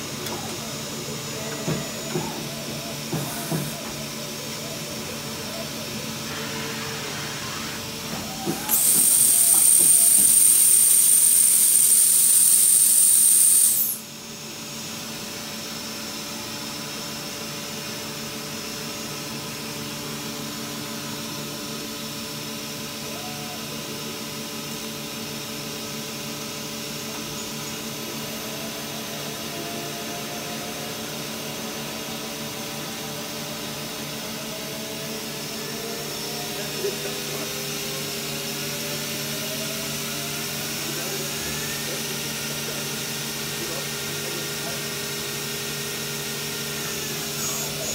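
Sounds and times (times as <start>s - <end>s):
faint machine whines: 0.0s - 47.9s.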